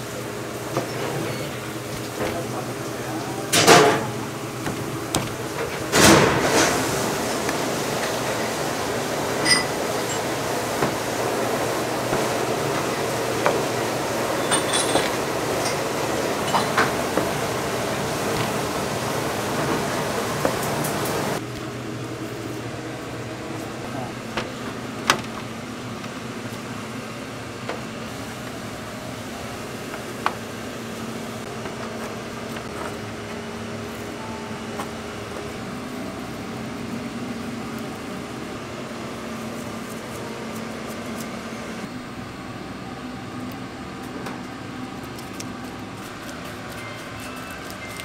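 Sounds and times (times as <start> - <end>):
kitchen machinery humming: 0.0 - 48.0.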